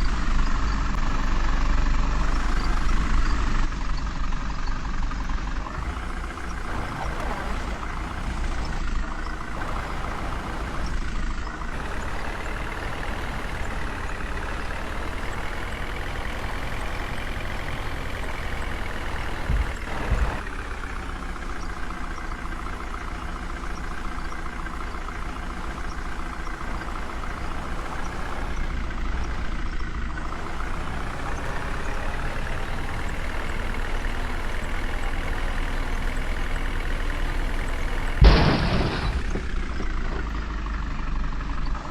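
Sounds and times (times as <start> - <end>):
diesel engine under load: 0.0 - 41.9.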